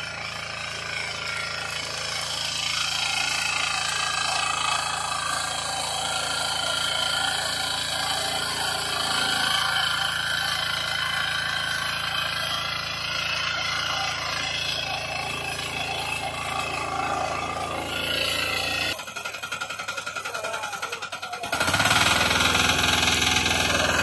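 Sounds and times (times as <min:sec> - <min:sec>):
tiller diesel engine running: 0:00.0 - 0:24.0
tines tilling soil: 0:00.0 - 0:24.0.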